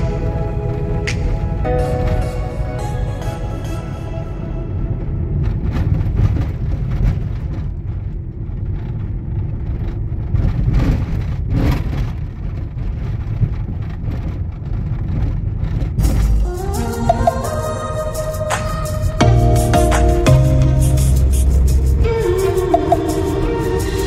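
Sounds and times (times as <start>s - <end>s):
tyre and engine rumble: 4.2s - 24.0s.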